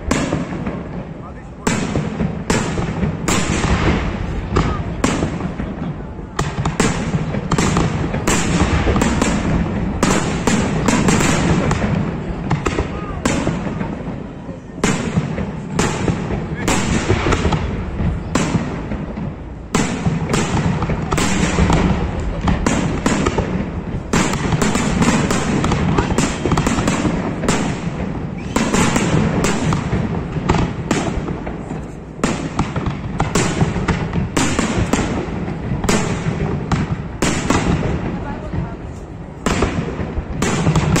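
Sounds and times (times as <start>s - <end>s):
firework crackle: 0.0s - 41.0s
fireworks bursting: 0.0s - 41.0s.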